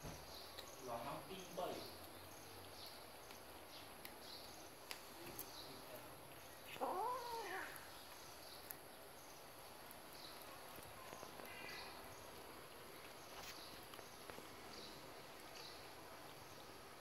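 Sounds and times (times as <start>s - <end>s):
cats chewing: 0.1s - 17.0s.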